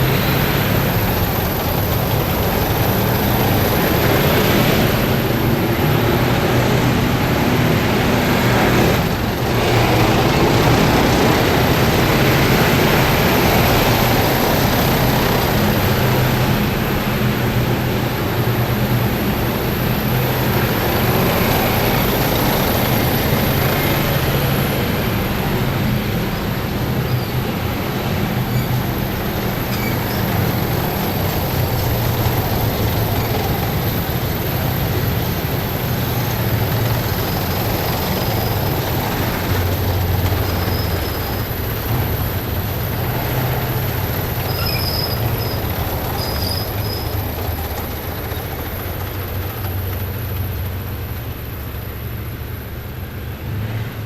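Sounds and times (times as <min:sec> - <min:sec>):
military vehicles engine drone: 0:00.0 - 0:54.0.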